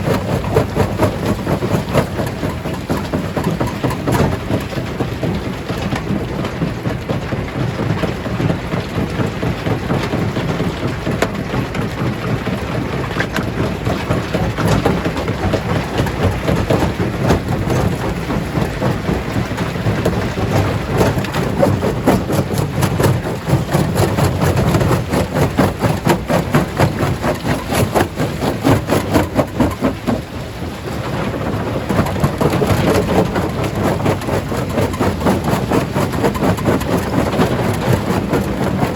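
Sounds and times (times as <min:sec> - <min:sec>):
stone crusher rumbling: 0:00.0 - 0:06.2, 0:10.9 - 0:38.9.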